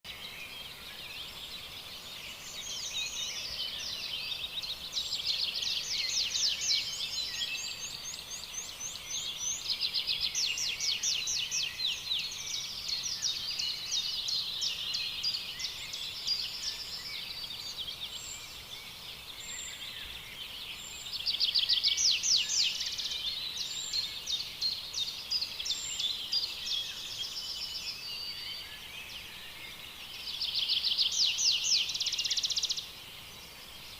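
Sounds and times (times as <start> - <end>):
small birds chirping rapidly: 0.0 - 33.9.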